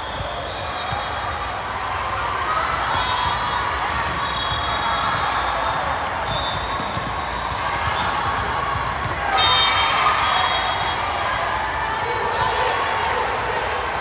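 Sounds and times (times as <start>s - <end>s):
echoing gym crowd noise: 0.0s - 14.0s
players' voices: 0.0s - 14.0s.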